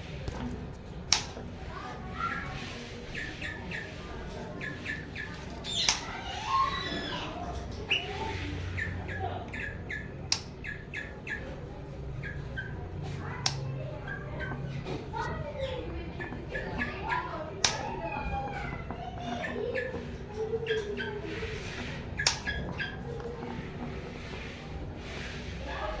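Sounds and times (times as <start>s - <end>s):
parrot chirps and clicks: 0.2s - 23.6s.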